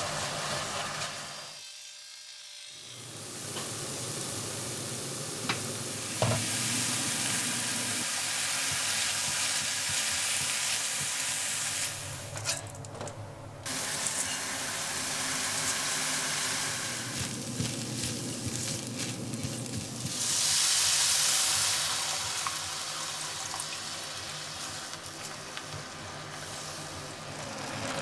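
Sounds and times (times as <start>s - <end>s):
food sizzling in a pan: 0.0s - 12.3s, 13.7s - 28.0s.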